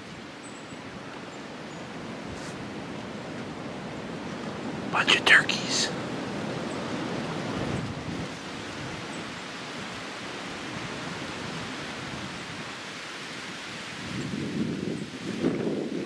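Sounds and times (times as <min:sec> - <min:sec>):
wind rushing through woods: 0:00.0 - 0:16.0.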